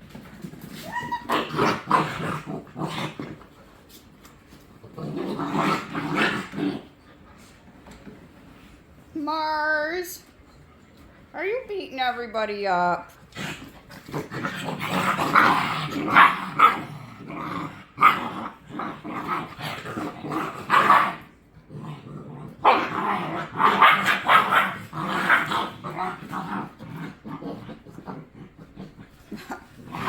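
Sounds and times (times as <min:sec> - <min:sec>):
puppies growling: 0:00.0 - 0:07.6, 0:13.1 - 0:30.0.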